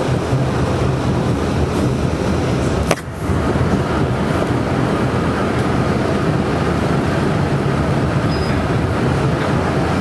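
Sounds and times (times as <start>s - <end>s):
subway car running rumble: 0.0s - 10.0s.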